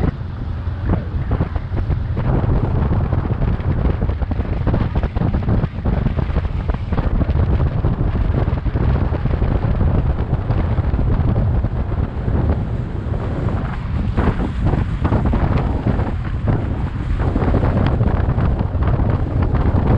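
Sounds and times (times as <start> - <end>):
road and vehicle noise: 0.0 - 19.9
wind buffeting microphone: 0.0 - 19.9.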